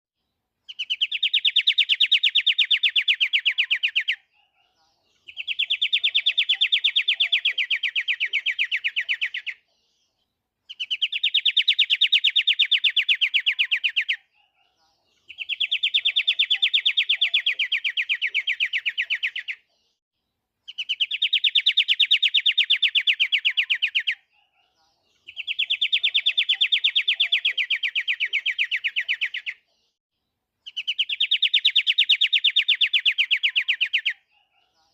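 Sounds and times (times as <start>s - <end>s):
bird singing fast trill: 0.7s - 9.6s, 10.7s - 19.7s, 20.7s - 29.7s, 30.6s - 34.9s.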